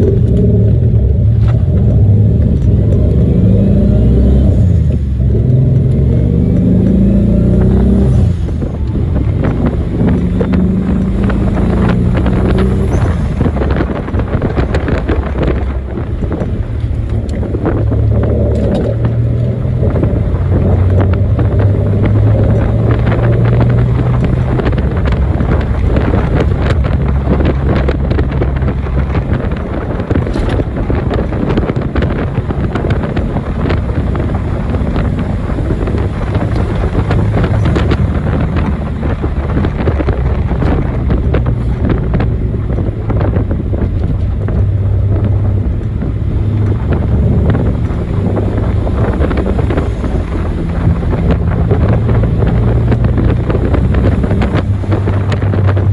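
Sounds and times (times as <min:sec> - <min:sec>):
car engine droning: 0:00.0 - 0:55.9
road noise: 0:00.0 - 0:55.9
wind noise: 0:00.0 - 0:55.9.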